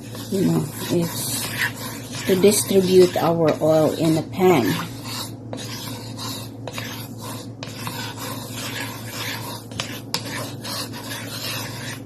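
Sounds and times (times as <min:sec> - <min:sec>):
spatula scraping a pan: 0:00.0 - 0:12.0.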